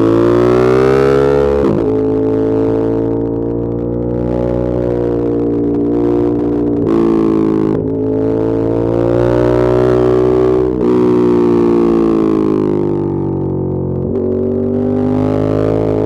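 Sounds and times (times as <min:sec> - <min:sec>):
motorcycle engine and exhaust: 0:00.0 - 0:16.0.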